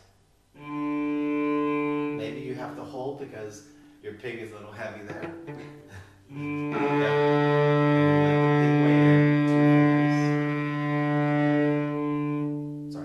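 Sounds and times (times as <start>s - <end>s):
cello sustained low note: 0.6s - 13.0s.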